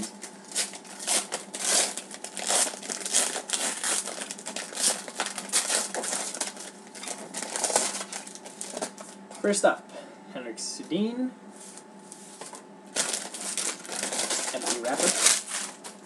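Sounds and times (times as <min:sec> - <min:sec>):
foil wrapper crinkling: 0:00.0 - 0:09.4, 0:12.4 - 0:16.0.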